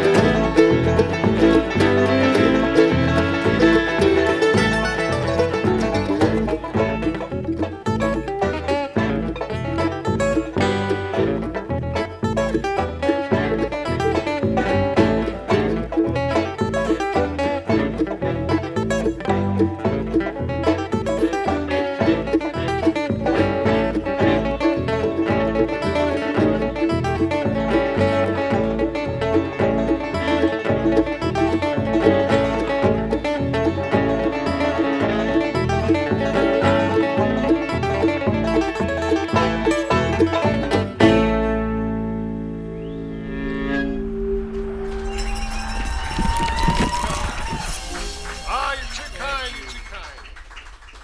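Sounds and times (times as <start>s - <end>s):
acoustic string band playing: 0.0s - 46.7s.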